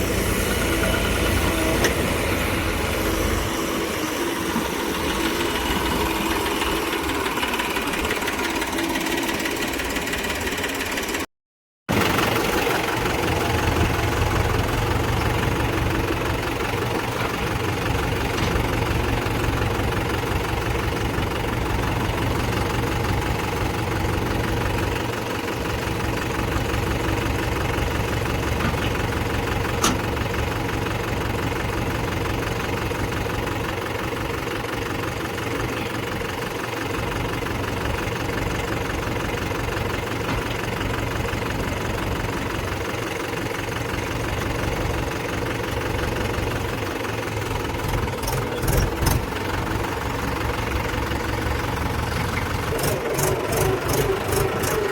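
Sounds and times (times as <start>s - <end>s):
diesel engine idling: 0.0s - 11.3s, 11.9s - 54.9s.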